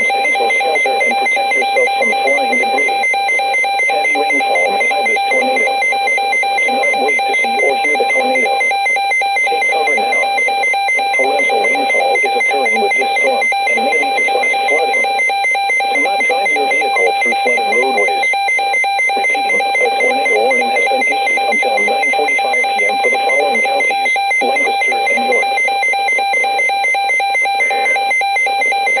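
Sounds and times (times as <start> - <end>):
electronic emergency alert tone: 0.0 - 29.0.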